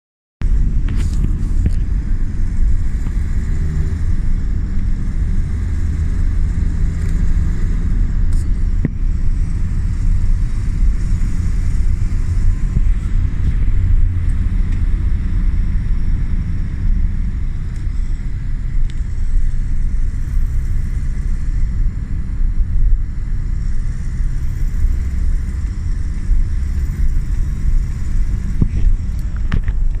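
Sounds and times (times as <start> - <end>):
diesel engine running: 0.4 - 30.0
mechanical engine noise: 0.4 - 30.0.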